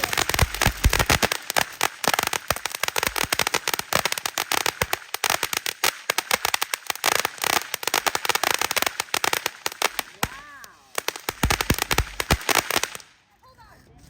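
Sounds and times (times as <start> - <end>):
fireworks crackling and popping: 0.0 - 13.3.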